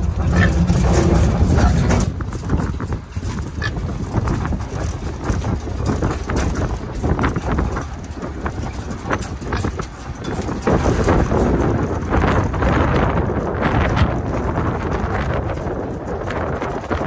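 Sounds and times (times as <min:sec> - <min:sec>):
metal panels knocking: 0:00.0 - 0:17.0
trailer rumbling and rattling: 0:00.0 - 0:17.0.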